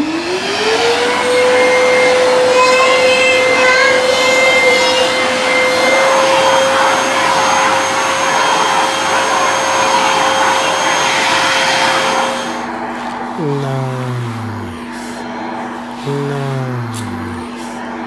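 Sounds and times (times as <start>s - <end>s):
vacuum suction with motor whine: 0.0s - 18.0s.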